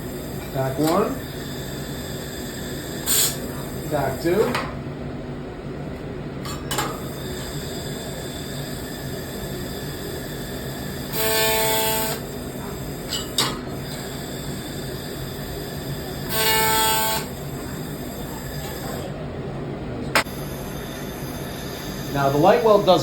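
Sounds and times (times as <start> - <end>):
laser welder buzzing and hissing: 0.0 - 4.5, 7.0 - 19.2, 20.2 - 23.0.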